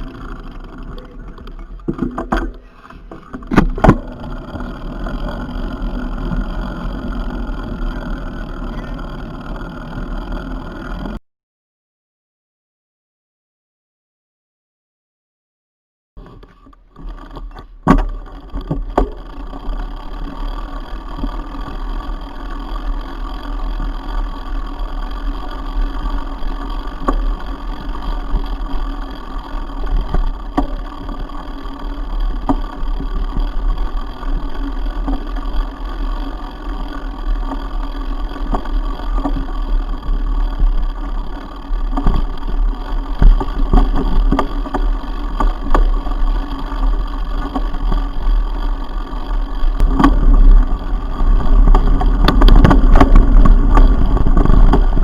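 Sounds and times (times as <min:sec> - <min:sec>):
mountain bike rumbling and rattling: 0:00.0 - 0:11.2, 0:16.2 - 0:55.0.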